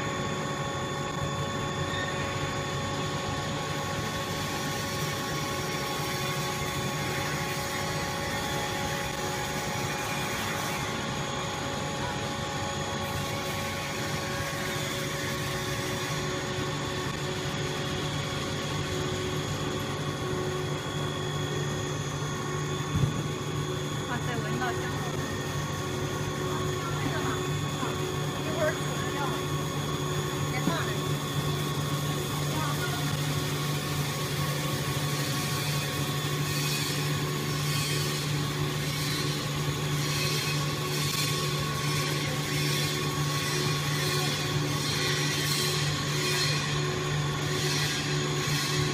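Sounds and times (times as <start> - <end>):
machine drone: 0.0 - 48.9.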